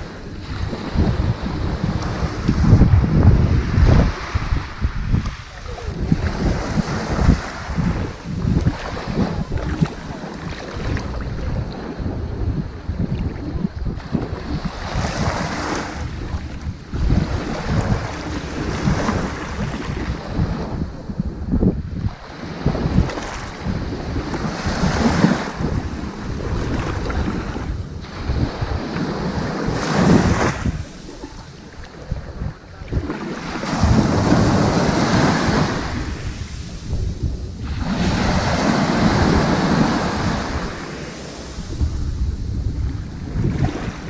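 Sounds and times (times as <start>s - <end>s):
ocean waves on sandy beach: 0.0s - 44.0s
wind rumble on microphone: 0.0s - 44.0s.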